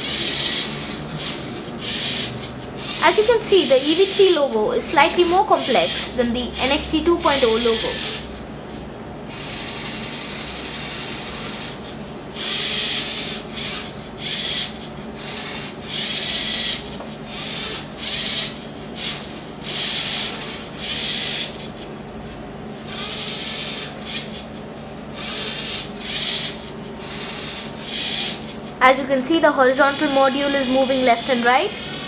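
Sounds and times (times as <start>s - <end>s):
small servo motors whirring: 0.0s - 8.4s, 9.3s - 21.9s, 22.8s - 28.8s, 29.6s - 32.0s.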